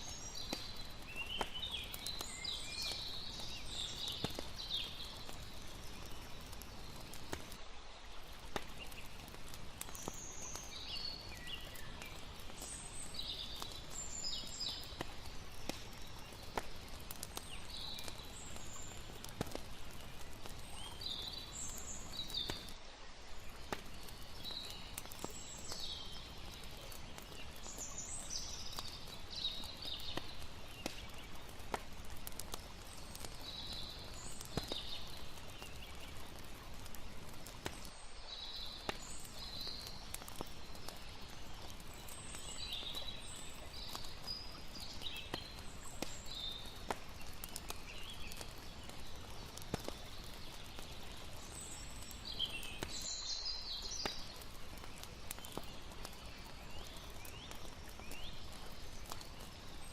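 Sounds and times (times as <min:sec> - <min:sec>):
low hiss of water: 0:00.0 - 0:59.9
wood fire crackling and popping: 0:00.0 - 0:59.9.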